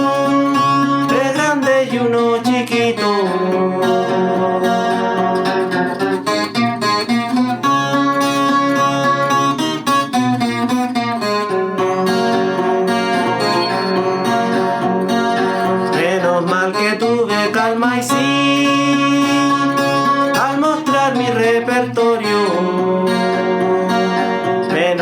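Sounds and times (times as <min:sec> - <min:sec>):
guitar plucked and strummed chords: 0:00.0 - 0:25.0.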